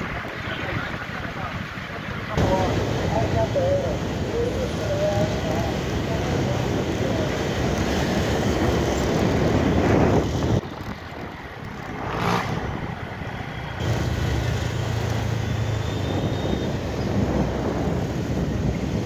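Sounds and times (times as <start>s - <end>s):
city traffic: 0.0s - 19.0s
wind and road noise: 0.0s - 19.0s.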